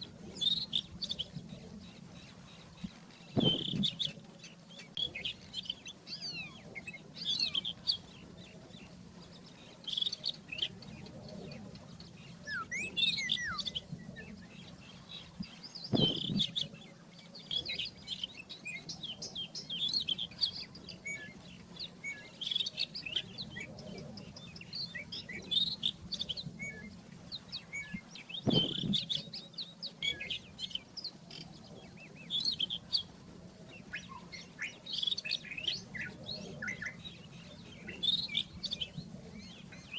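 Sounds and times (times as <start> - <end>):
robin singing: 0.0 - 39.9.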